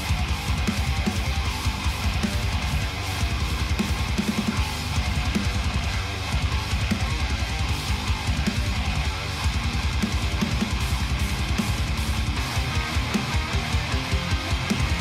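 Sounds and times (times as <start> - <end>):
rock music with guitars and drums: 0.0 - 15.0.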